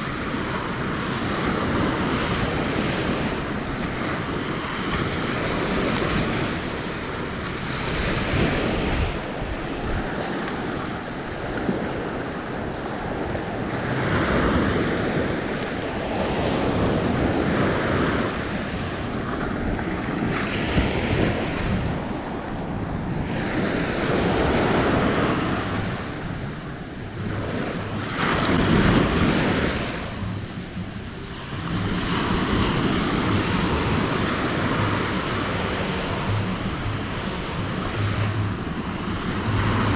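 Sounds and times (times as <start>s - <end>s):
small waves breaking on sand: 0.0s - 39.9s
wind buffeting microphone: 0.0s - 39.9s.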